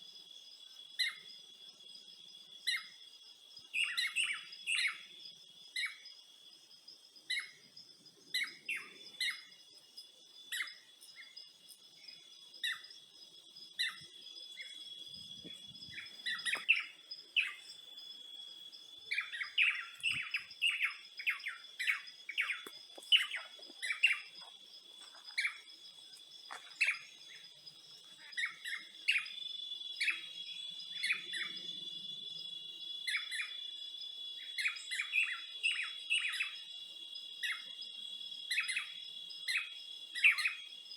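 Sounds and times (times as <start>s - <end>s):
small birds chirping: 0.8s - 40.9s
high-pitched insect drone: 7.4s - 40.9s.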